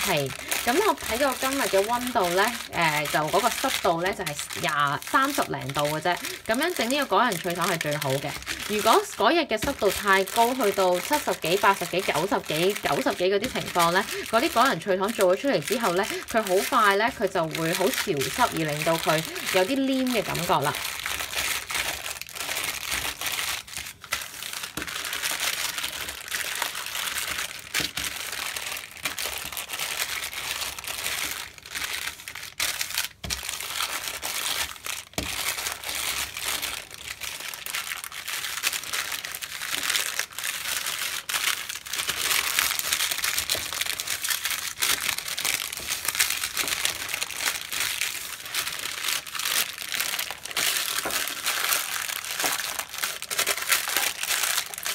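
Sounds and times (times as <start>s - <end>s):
baking paper crinkling: 0.0s - 54.9s
brittle crackling: 0.0s - 54.9s.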